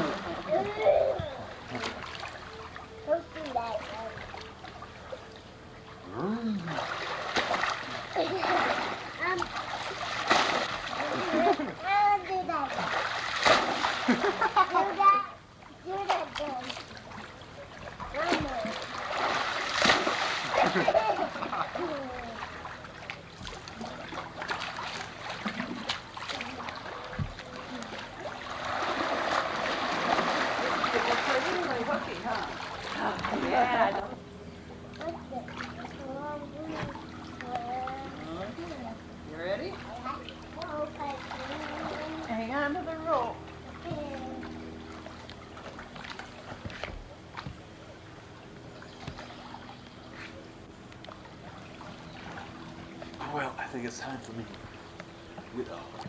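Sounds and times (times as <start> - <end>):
faint steady hum: 0.0 - 56.0
water splashing and sloshing: 0.0 - 56.0.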